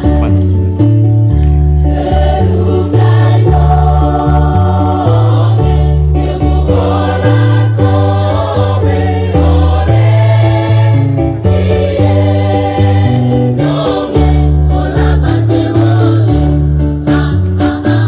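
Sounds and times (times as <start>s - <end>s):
choir singing: 1.8s - 18.0s.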